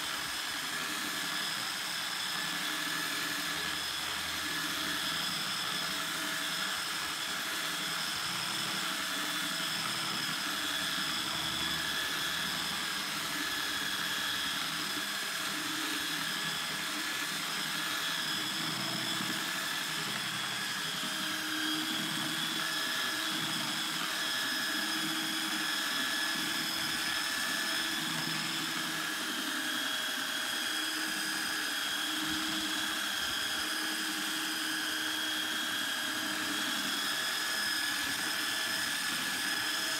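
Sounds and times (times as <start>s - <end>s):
electric sander on wood: 0.0s - 39.9s.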